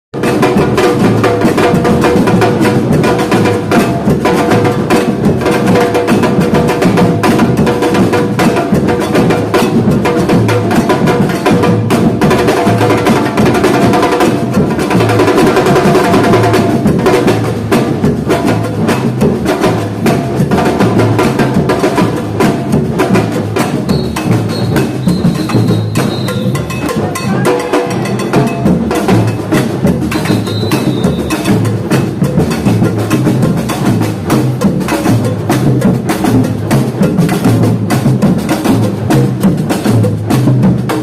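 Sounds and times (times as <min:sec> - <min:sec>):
percussion group drumming: 0:00.1 - 0:41.0.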